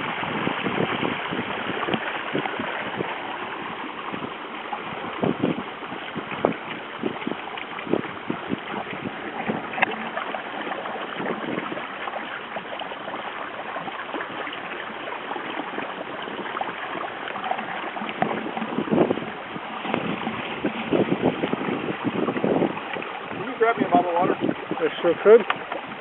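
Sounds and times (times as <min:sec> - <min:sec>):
water splashing along boat hull: 0:00.0 - 0:26.0.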